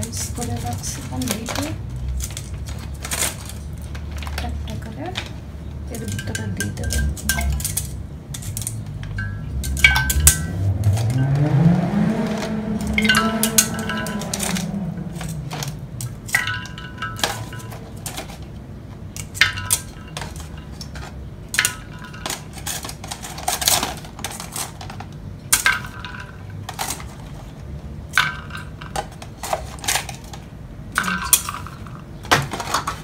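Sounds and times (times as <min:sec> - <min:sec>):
ice cubes clinking into pitcher: 0:00.0 - 0:11.5, 0:12.2 - 0:33.0.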